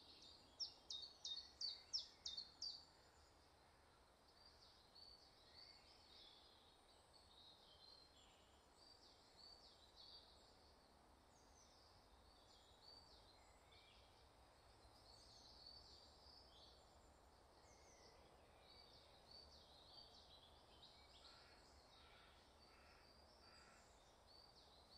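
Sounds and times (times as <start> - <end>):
faint background noise: 0.0 - 24.9
songbirds chirping: 0.0 - 24.9.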